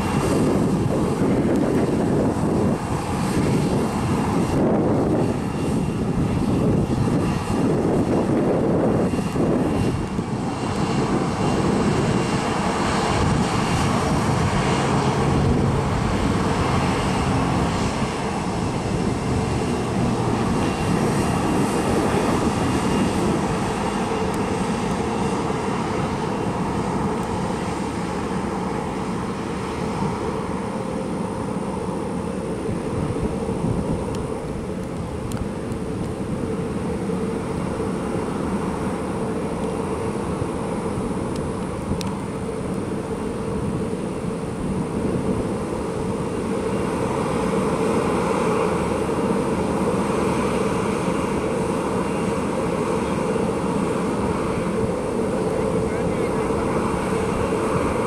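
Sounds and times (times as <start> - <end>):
jet engines rumbling: 0.0 - 58.0
propeller plane engines: 0.0 - 58.0.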